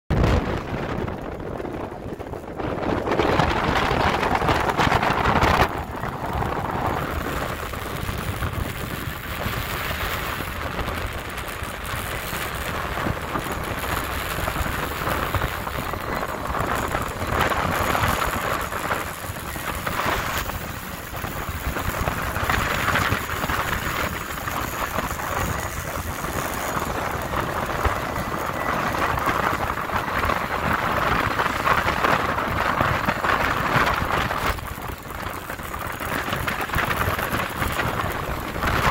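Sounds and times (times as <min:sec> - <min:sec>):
wind rushing over microphone: 0:00.1 - 0:38.9.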